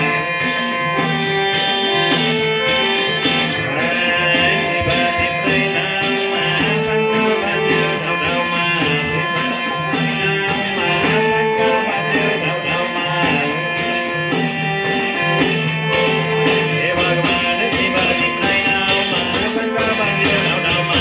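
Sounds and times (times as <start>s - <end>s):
plucked-string devotional music: 0.0s - 21.0s.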